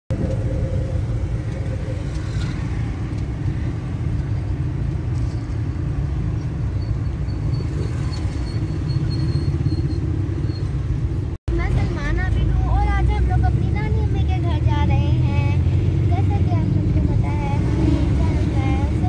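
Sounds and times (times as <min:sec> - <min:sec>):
car engine and road rumble: 0:00.1 - 0:19.0.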